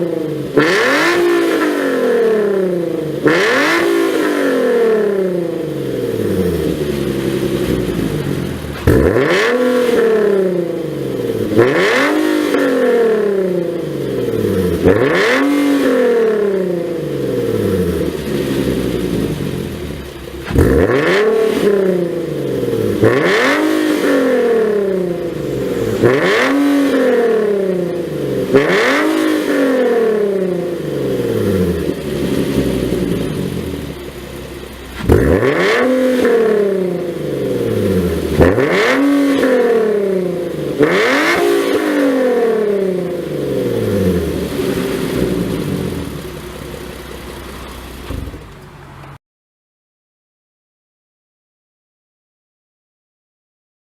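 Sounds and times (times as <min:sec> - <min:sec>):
car engine revving: 0:00.0 - 0:49.2.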